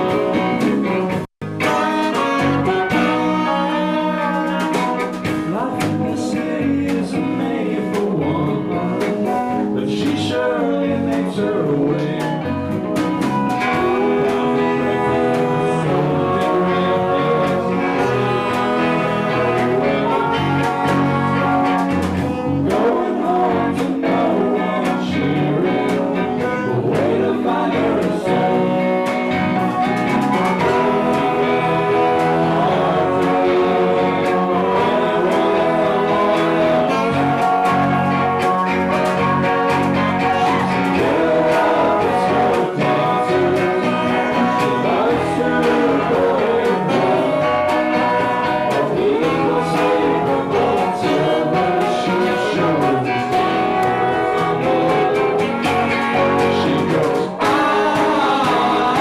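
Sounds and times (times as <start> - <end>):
guitar: 0.0 - 59.0
live band playing: 0.0 - 59.0
person singing: 0.0 - 59.0.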